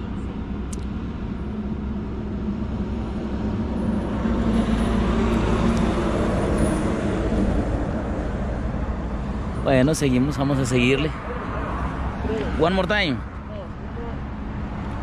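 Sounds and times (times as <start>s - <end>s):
traffic hum: 0.0s - 15.0s
vehicle passing: 2.2s - 15.0s.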